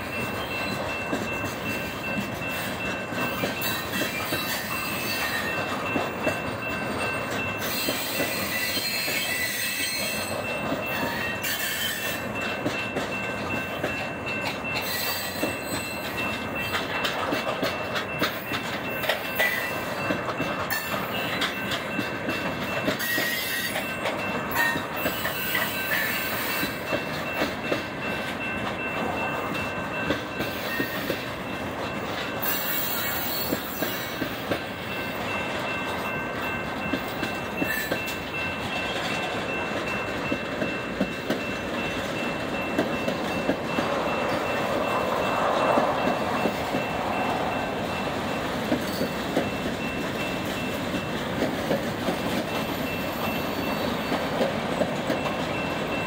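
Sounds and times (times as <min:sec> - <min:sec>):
steel wheels rumbling on rail: 0:00.0 - 0:56.0
wheels clacking over rail joints: 0:00.0 - 0:56.0.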